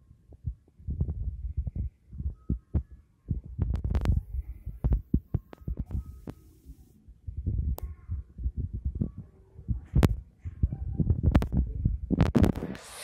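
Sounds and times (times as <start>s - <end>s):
microphone handling thumps and clicks: 0.3s - 6.4s, 7.3s - 12.8s.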